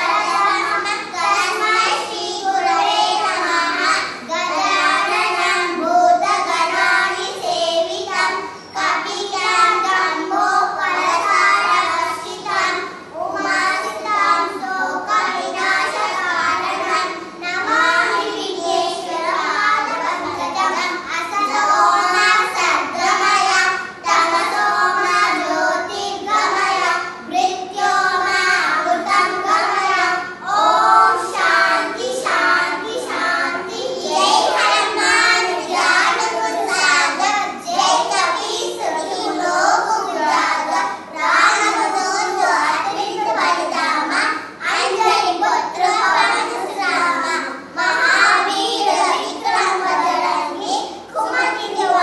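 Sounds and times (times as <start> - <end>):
girls chanting together: 0.0 - 52.0.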